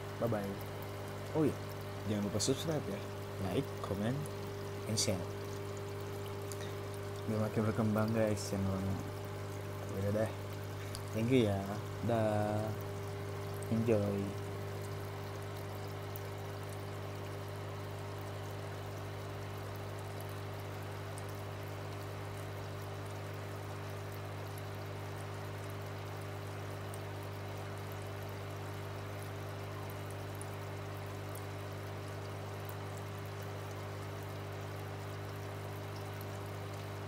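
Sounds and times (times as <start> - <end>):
aerator electric hum: 0.0 - 37.0
bubbling water: 0.0 - 37.0.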